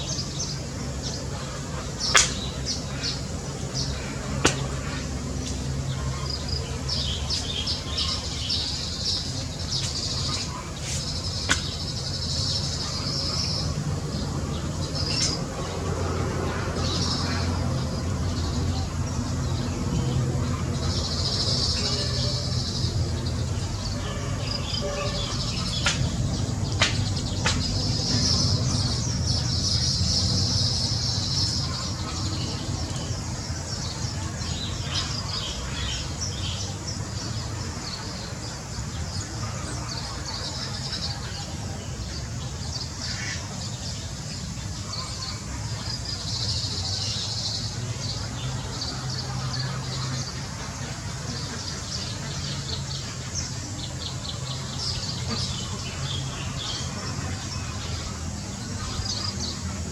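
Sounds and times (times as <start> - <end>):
birds chirping: 0.0 - 59.9
low background noise: 0.0 - 59.9.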